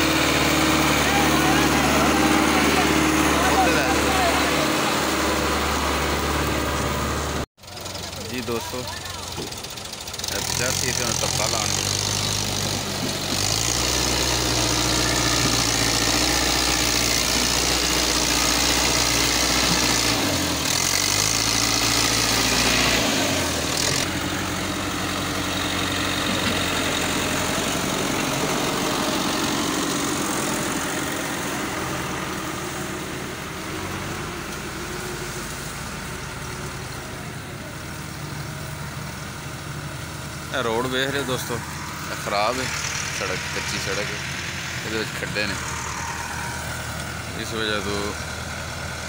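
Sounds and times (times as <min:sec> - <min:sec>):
tractor engine running under load: 0:00.0 - 0:49.0.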